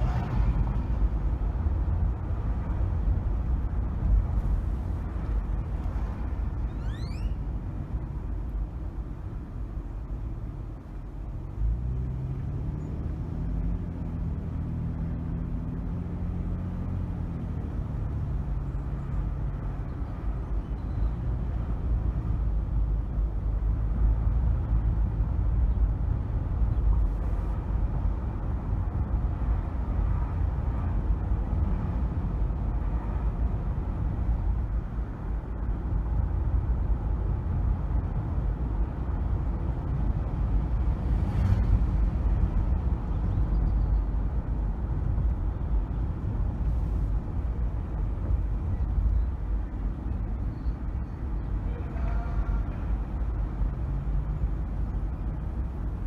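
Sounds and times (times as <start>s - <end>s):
tyre and road noise: 0.0s - 56.0s.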